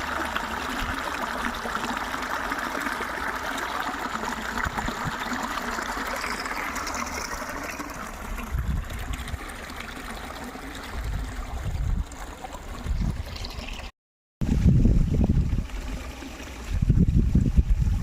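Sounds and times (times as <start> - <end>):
water trickling: 0.0 - 13.9, 14.5 - 18.0.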